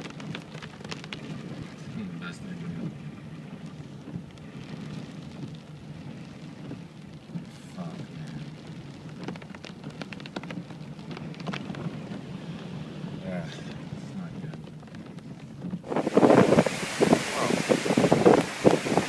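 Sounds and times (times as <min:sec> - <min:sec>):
heavy rain pattering: 0:00.0 - 0:19.0.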